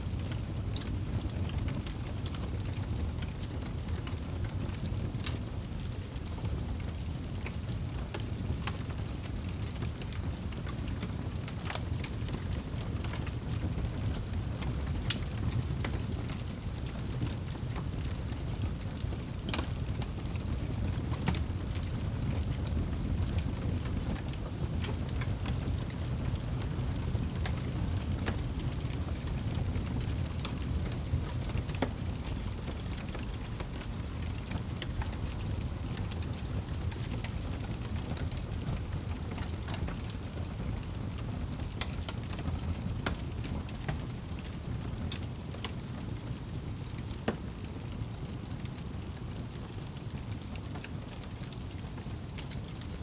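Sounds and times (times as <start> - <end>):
fire burning with crackles: 0.0 - 53.0.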